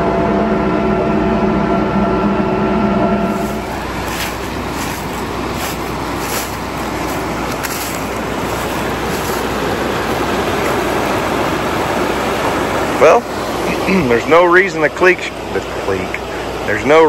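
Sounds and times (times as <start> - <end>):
creek water rushing over rocks: 3.3 - 17.0.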